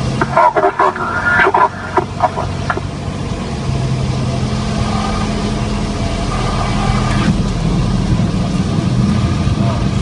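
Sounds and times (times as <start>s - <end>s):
airplane engine droning: 0.0s - 10.0s.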